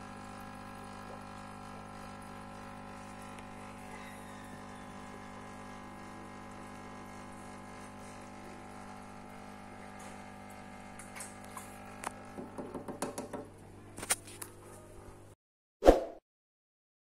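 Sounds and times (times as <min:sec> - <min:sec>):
filter pump humming: 0:00.0 - 0:15.2.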